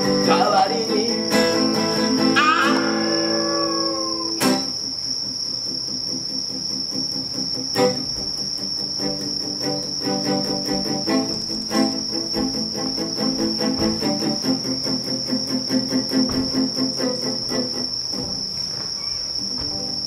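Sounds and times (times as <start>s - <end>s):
acoustic guitar notes: 0.0s - 20.0s
insects trilling: 0.0s - 20.0s.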